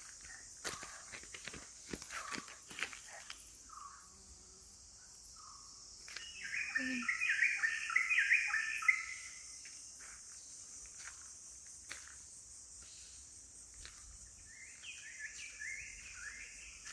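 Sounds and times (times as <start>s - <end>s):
insects droning: 0.0s - 16.9s.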